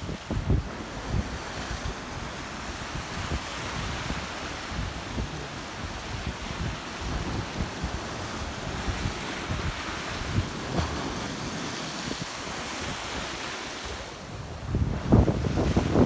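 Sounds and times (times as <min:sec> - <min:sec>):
small waves lapping: 0:00.0 - 0:14.7
waves splashing over concrete: 0:00.0 - 0:16.0
wind buffeting microphone: 0:00.0 - 0:16.0.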